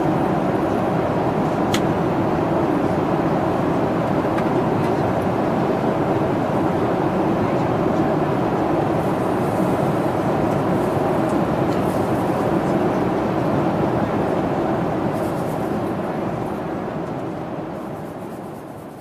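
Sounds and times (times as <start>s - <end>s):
airliner cabin engine roar: 0.0s - 19.0s.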